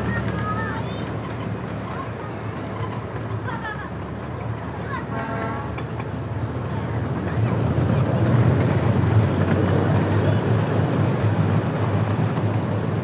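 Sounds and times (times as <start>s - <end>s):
miniature train rumbling: 0.0s - 13.0s.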